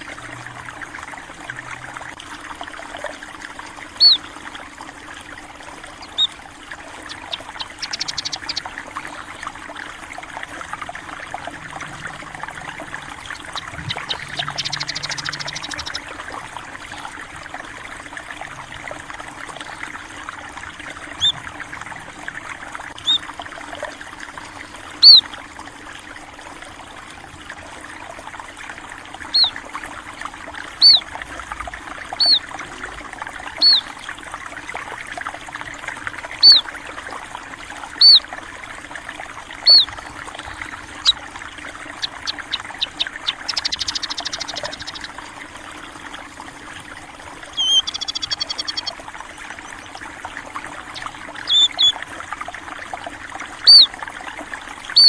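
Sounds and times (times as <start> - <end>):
trickle of flowing water: 0.0 - 55.0.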